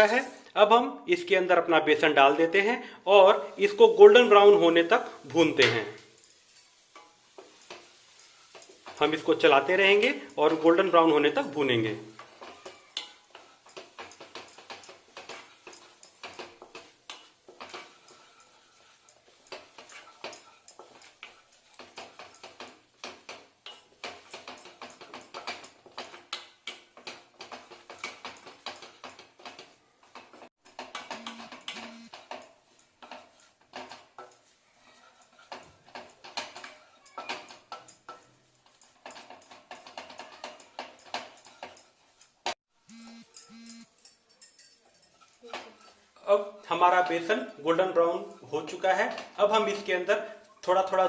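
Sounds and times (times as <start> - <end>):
spatula scraping and stirring: 2.3 - 51.0.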